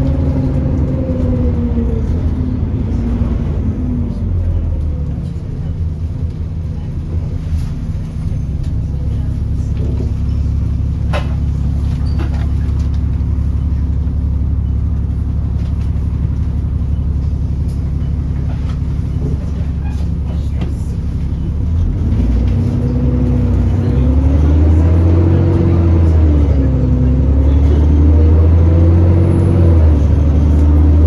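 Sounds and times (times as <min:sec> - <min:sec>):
bus diesel engine drone: 0:00.0 - 0:31.0.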